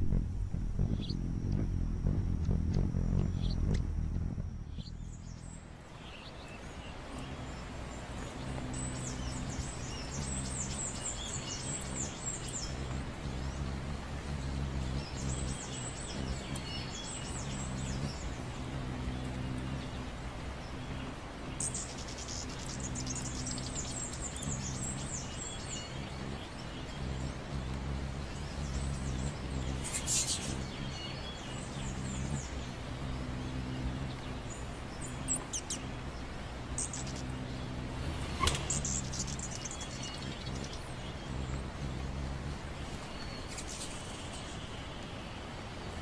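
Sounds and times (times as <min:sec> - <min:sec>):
hummingbirds chirping: 0:00.0 - 0:46.0
steady low hum: 0:00.0 - 0:46.0.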